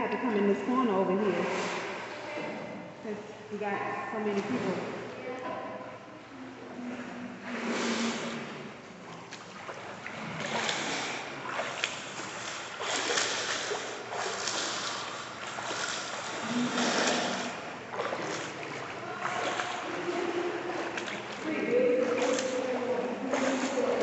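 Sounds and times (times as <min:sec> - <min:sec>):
pool water splashing: 0:00.0 - 0:24.0.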